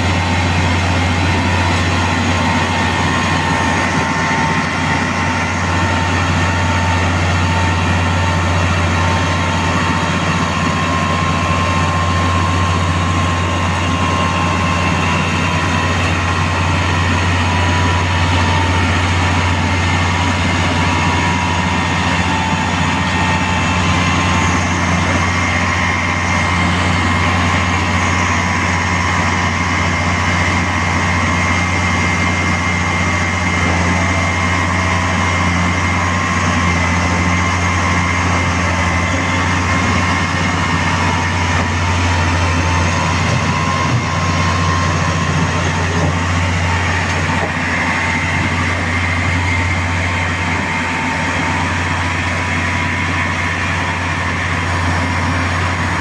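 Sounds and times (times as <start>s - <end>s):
heavy engine droning: 0.0s - 56.0s
thin steady whine: 0.0s - 56.0s.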